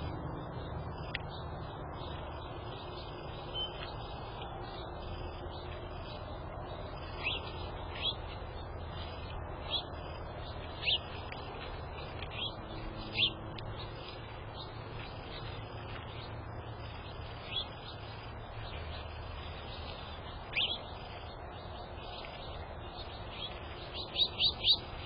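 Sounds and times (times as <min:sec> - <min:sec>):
low background hum: 0:00.0 - 0:25.0
small birds chirping: 0:00.0 - 0:25.0.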